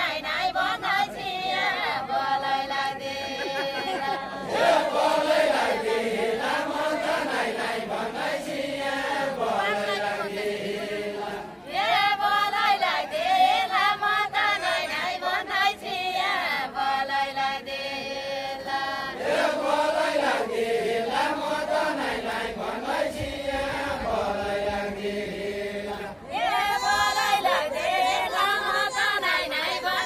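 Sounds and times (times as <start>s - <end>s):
group folk singing: 0.0s - 30.0s.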